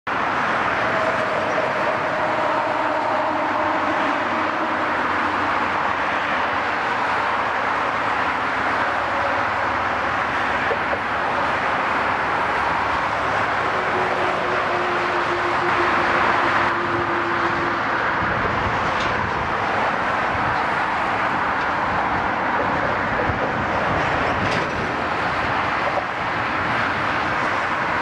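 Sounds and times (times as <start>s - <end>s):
road traffic: 0.0s - 28.0s
diesel excavators and truck: 0.1s - 28.0s.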